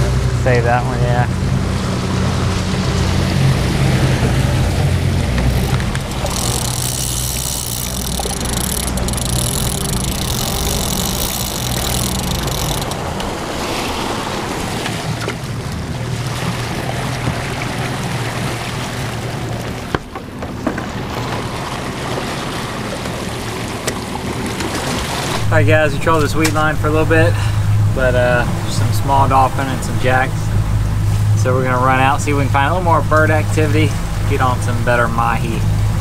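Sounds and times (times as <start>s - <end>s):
boat engine humming: 0.0s - 36.0s
water rushing in wake: 0.0s - 36.0s.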